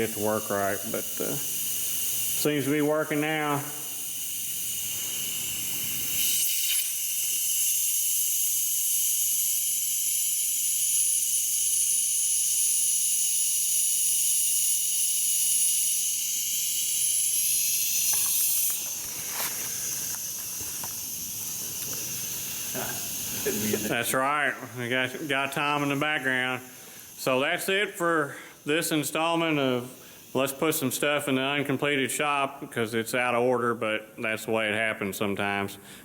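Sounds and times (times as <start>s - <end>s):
air compressor valve hissing: 0.0s - 32.7s.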